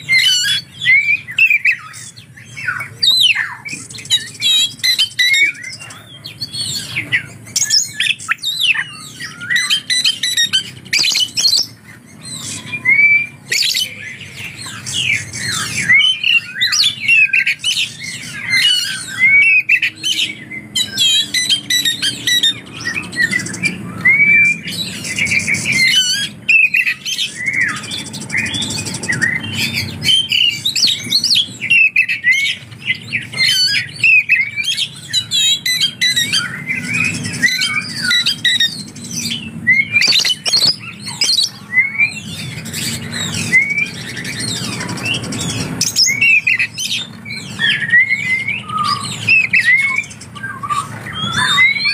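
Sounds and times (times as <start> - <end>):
songbird singing: 0.0 - 51.9.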